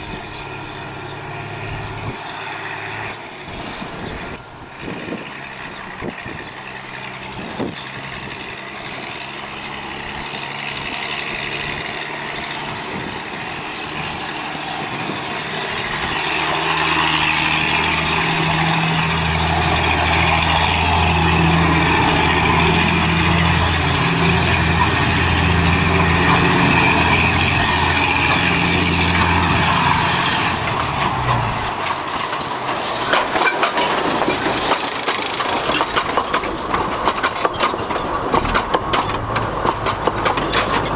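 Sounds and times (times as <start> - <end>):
locomotive engine humming: 0.0 - 40.9
wagons rattling over rail joints: 0.0 - 40.9.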